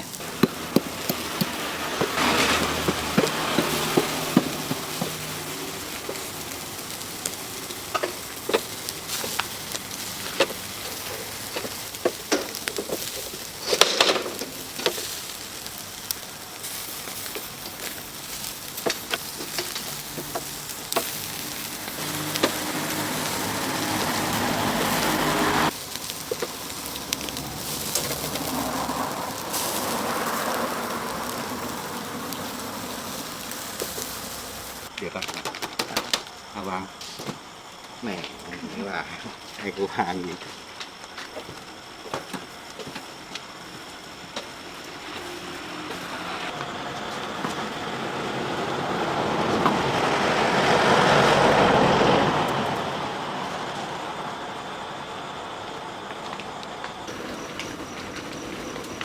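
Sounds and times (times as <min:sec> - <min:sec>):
food sizzling and popping in fat: 0:00.0 - 0:54.2, 0:55.3 - 0:59.0.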